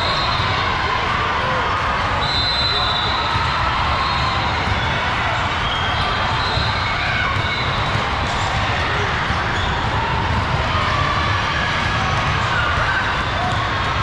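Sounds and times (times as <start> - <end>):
echoing crowd din: 0.0 - 14.0.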